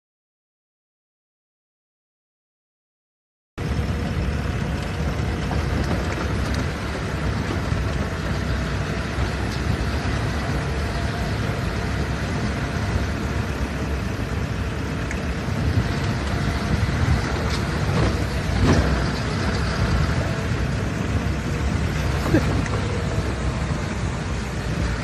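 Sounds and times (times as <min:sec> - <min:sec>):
road traffic rumble: 0:03.6 - 0:25.0.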